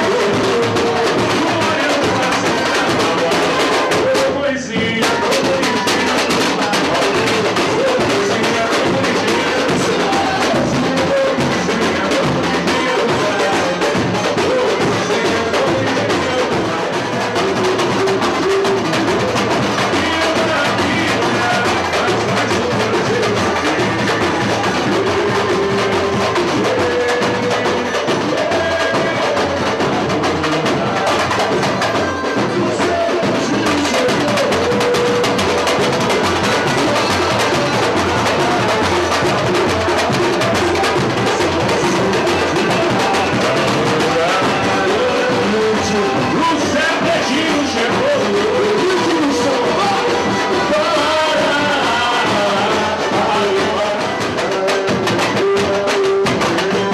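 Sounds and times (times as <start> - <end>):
pitched melody: 0.0 - 56.9
samba drumming: 0.0 - 56.9.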